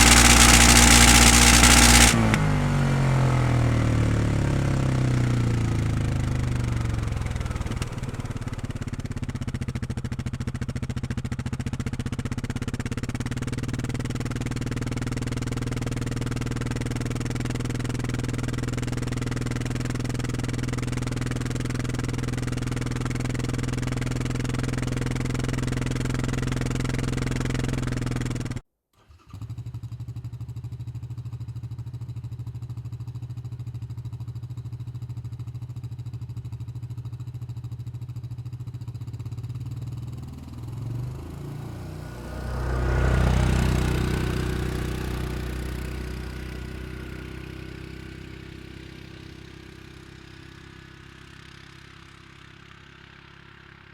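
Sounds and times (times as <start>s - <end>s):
atv engine idling: 0.0s - 28.6s, 30.8s - 53.9s.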